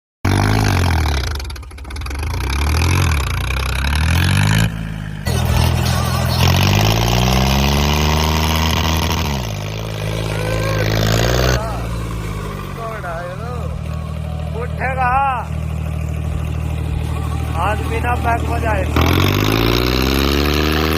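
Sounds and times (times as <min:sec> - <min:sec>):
tractor diesel engine revving: 0:00.2 - 0:20.9.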